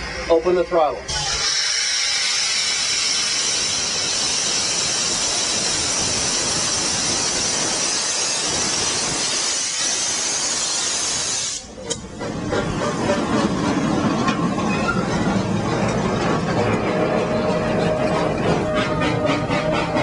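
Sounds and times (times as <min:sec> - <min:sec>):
steam locomotive hissing steam: 0:00.0 - 0:14.0, 0:17.3 - 0:20.0.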